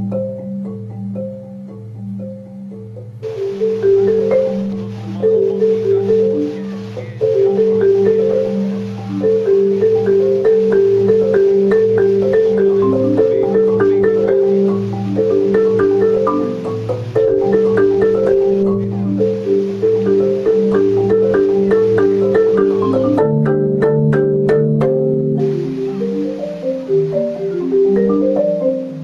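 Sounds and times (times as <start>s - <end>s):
marimba-like mallet melody: 0.0s - 29.0s.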